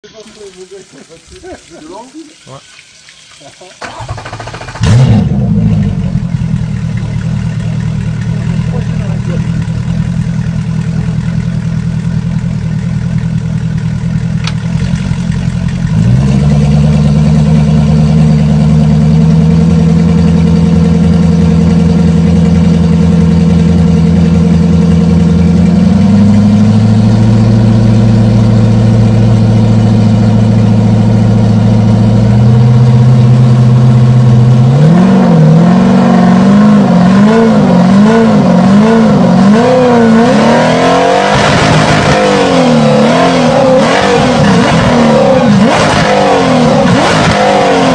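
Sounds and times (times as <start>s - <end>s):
outboard engine revving: 3.8s - 47.9s.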